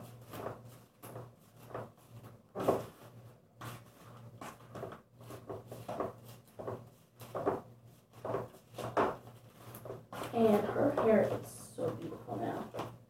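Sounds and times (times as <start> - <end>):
handling rustles and knocks: 0.0 - 13.0.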